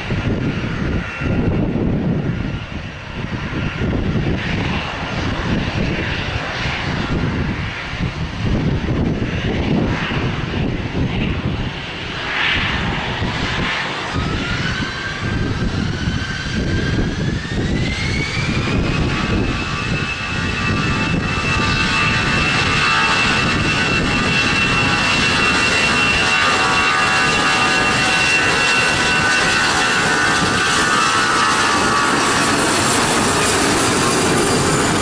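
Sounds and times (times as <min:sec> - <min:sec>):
jet engine high whine: 0:00.0 - 0:35.0
loud jet engine rumble: 0:00.0 - 0:35.0.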